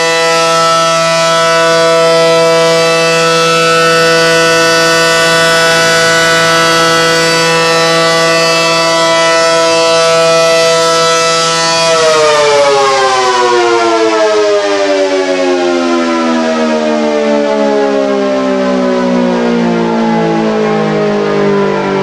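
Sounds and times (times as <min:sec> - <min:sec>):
outdoor warning siren: 0:00.0 - 0:22.0.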